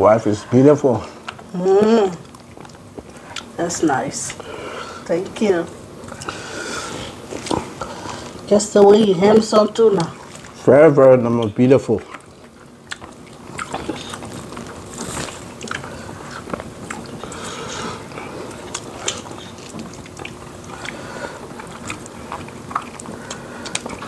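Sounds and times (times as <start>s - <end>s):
chewing and lip smacking: 2.1s - 3.6s, 4.2s - 5.2s, 6.0s - 10.6s, 11.2s - 24.0s.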